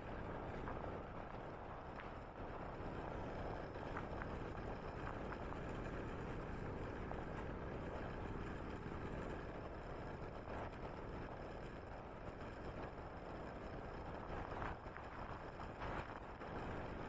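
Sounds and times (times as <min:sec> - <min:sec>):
light ticks and rattles: 0:00.0 - 0:17.0
scooter wheels rolling on pavement: 0:00.0 - 0:17.0.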